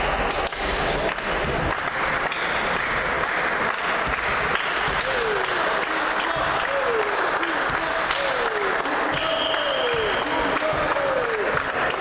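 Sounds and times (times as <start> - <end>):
spectators clapping: 0.0 - 12.0.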